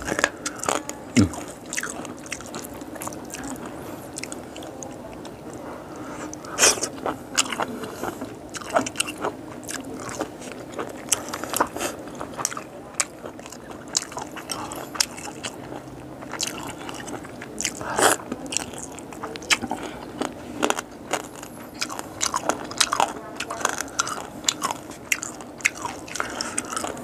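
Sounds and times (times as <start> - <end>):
person chewing crunchy food: 0.0 - 4.7, 6.2 - 27.0.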